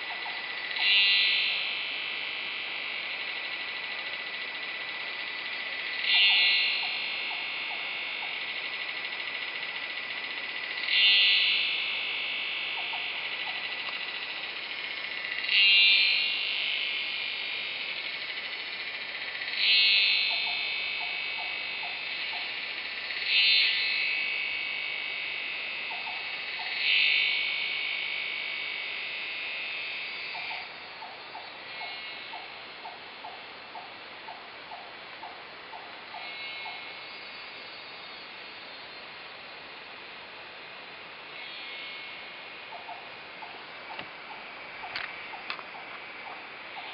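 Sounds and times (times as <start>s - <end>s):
insect metallic buzzing: 0.0s - 46.9s.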